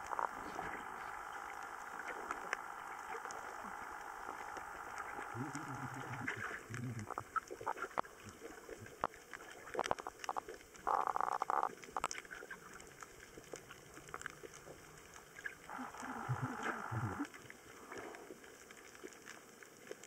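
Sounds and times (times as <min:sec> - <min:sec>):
underwater clicks and crackles: 0:00.0 - 0:20.0.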